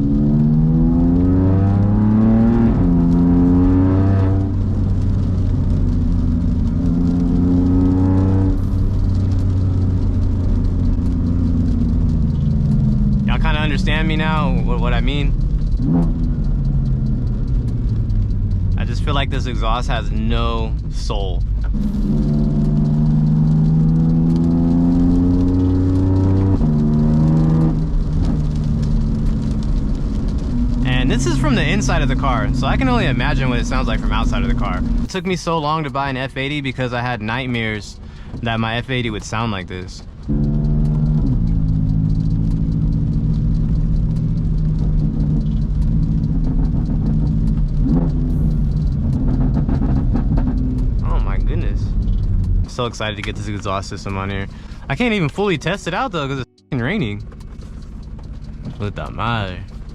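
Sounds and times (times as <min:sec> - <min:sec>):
car engine heard from inside cabin: 0:00.0 - 0:59.9.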